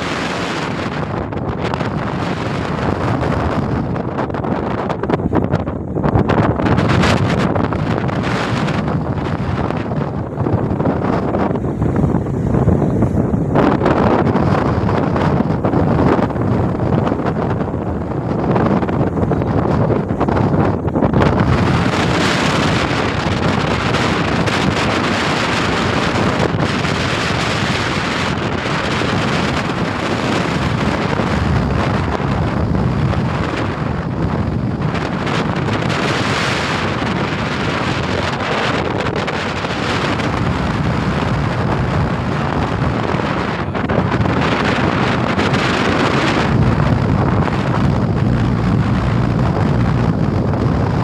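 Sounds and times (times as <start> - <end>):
rough sea washing: 0.0 - 51.0
wind buffeting microphone: 0.0 - 51.0.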